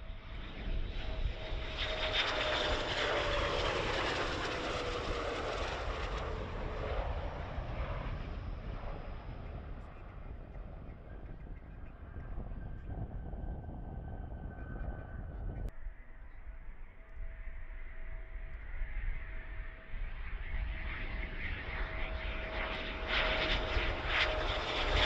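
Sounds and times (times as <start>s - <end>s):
jet fighter passing low: 0.0s - 15.8s, 16.7s - 25.0s.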